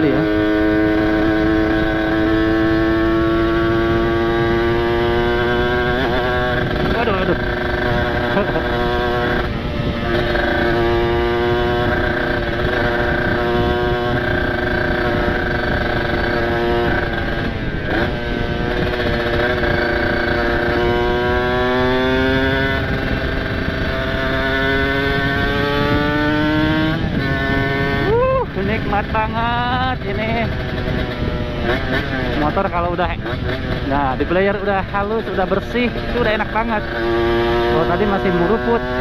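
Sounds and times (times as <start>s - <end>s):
two-stroke motorcycle engine revving: 0.0s - 39.0s
wind rush: 0.0s - 39.0s.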